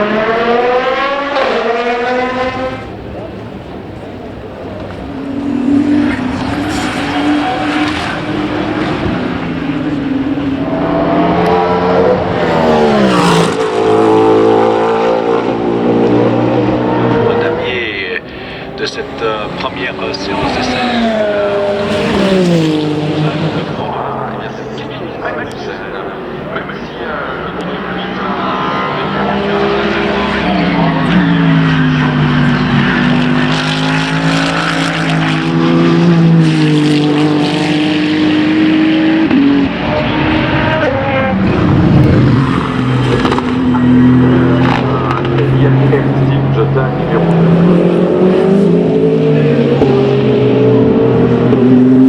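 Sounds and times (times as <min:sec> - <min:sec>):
race car engine passing by: 0:00.0 - 0:52.0
steady engine note: 0:00.0 - 0:52.0.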